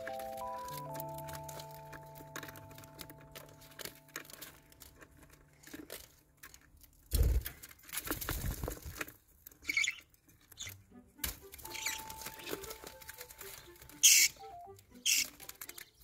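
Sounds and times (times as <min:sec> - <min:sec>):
paper crinkling: 0:00.0 - 0:10.6, 0:11.3 - 0:16.0.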